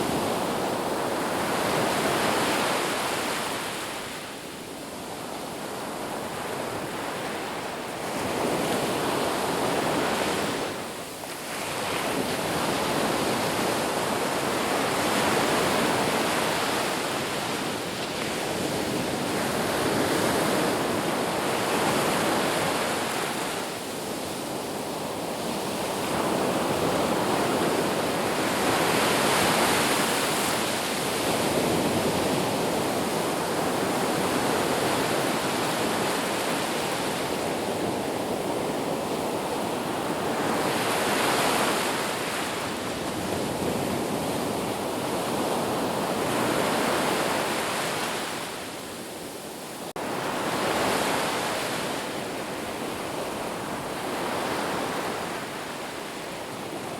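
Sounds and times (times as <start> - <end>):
sea waves washing in: 0.0 - 56.9.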